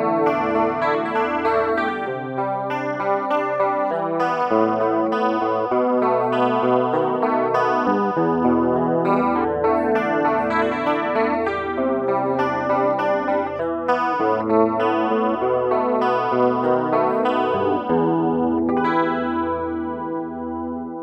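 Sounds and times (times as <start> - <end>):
electric guitar with wavering pitch: 0.0 - 21.0.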